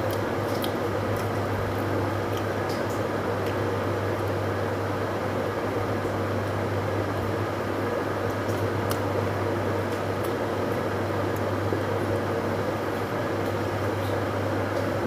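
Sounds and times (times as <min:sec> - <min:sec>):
appliance hum and hiss: 0:00.0 - 0:15.0.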